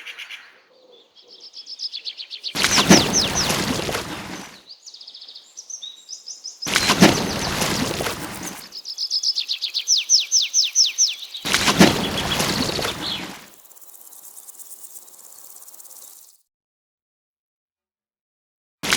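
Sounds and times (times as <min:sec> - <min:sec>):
birds chirping: 0:00.0 - 0:16.4.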